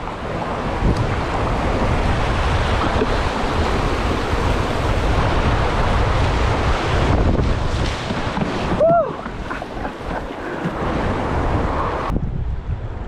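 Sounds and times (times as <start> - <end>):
whitewater rushing: 0.0 - 12.1.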